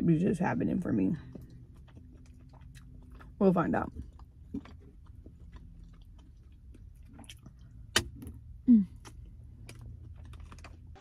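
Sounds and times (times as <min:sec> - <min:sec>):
person chewing food: 0:01.2 - 0:11.0.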